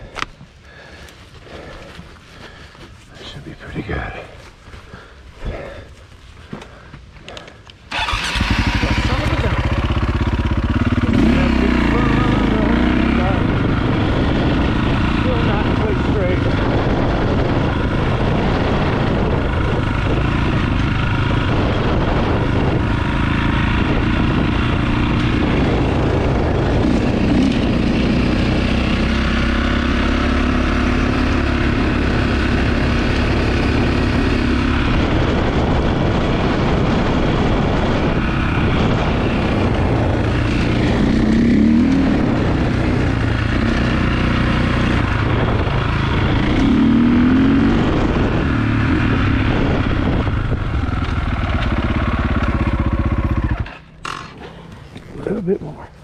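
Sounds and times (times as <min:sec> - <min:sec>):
dirt bike engine running: 0:06.5 - 0:55.9.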